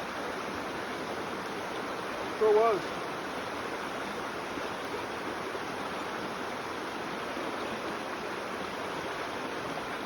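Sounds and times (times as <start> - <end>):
flowing creek water: 0.0 - 10.0.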